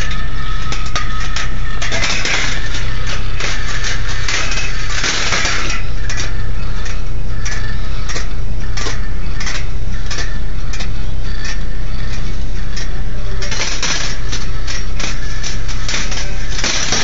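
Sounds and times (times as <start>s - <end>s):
steady low hum: 0.0s - 17.0s
steel balls clicking on wire tracks: 0.0s - 17.0s.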